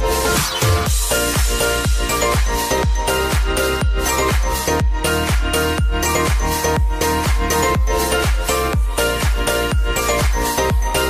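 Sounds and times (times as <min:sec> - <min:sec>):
electronic dance music: 0:00.0 - 0:11.0
steady kick drum beat: 0:00.0 - 0:11.0.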